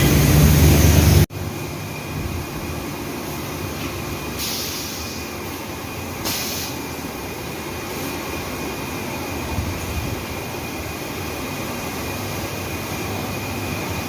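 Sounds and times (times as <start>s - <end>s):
factory machinery noise: 0.0s - 14.0s.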